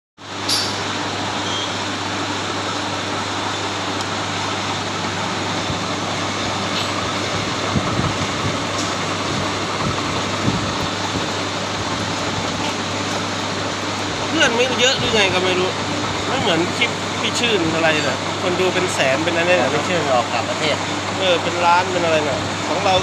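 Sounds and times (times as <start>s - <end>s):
drilling machine whirring: 0.3s - 23.0s.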